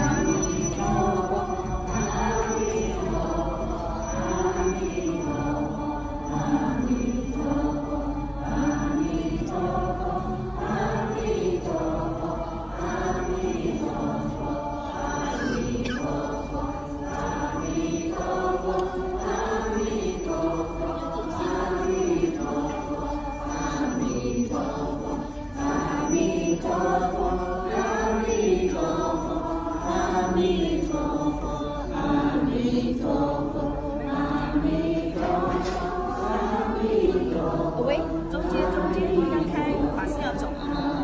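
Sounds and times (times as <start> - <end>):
group chanting in unison: 0.0 - 41.0.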